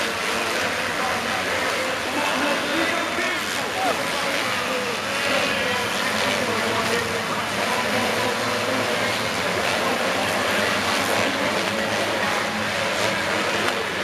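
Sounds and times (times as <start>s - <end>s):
motocross bike engines running: 0.0s - 14.0s.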